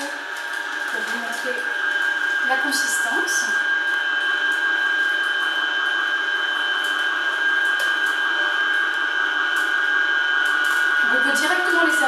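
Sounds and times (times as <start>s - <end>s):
juicer motor whine: 0.0s - 12.0s.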